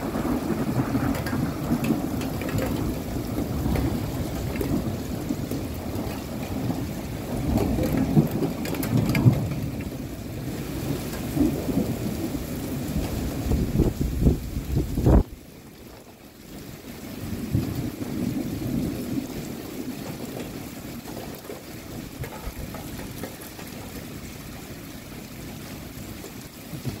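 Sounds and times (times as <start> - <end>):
rolling thunder: 0.0 - 15.4, 17.2 - 24.0
heavy rain pouring: 0.0 - 27.0.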